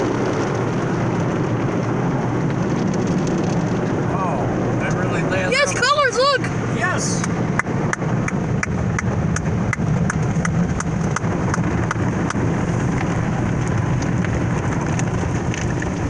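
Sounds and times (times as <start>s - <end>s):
car wash water spraying: 0.0s - 16.0s
low rumble: 0.0s - 16.0s.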